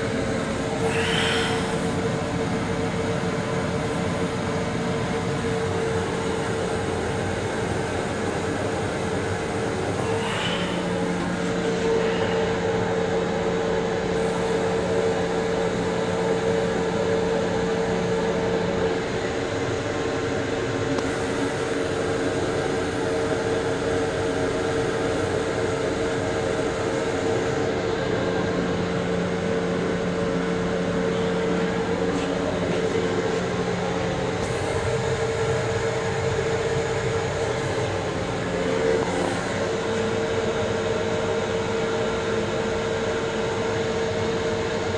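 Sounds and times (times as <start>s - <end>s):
mid-pitched hum: 0.0s - 44.9s
railcar rumble: 0.0s - 44.9s.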